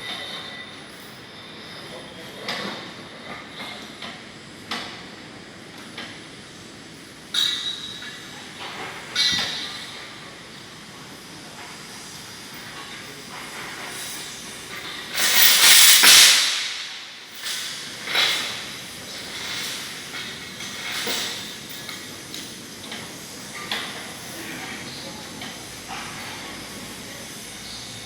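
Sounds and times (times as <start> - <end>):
hoist crane mechanical hiss: 0.0 - 28.0.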